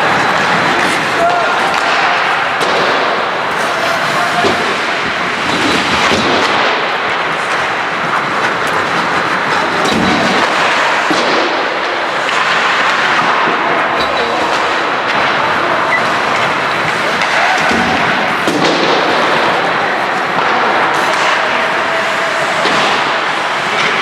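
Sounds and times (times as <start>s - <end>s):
hockey sticks and puck clacking: 0.0s - 24.0s
skates hissing on ice: 0.0s - 24.0s.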